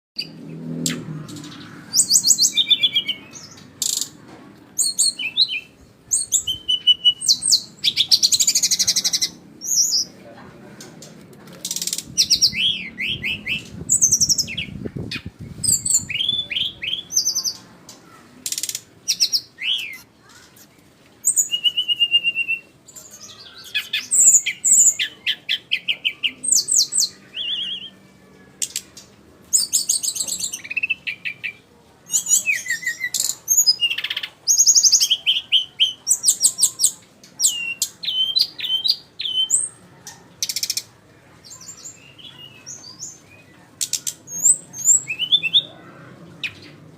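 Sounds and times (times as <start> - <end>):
bird singing trills and whistles: 0.2 - 4.1, 4.8 - 10.1, 11.7 - 17.6, 18.6 - 20.1, 21.2 - 28.0, 29.5 - 39.8, 41.5 - 45.7.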